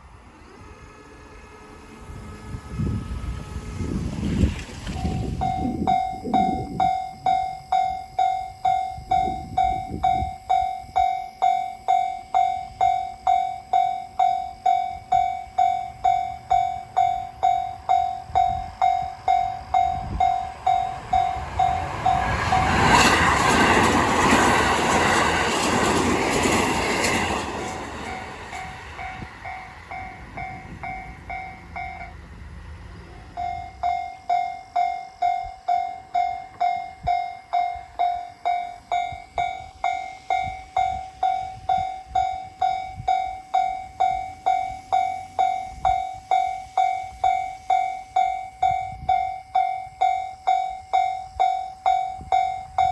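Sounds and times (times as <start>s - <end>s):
train passing: 0.0s - 52.9s
level crossing warning bell ringing: 4.8s - 25.3s, 27.2s - 32.3s, 33.0s - 52.9s.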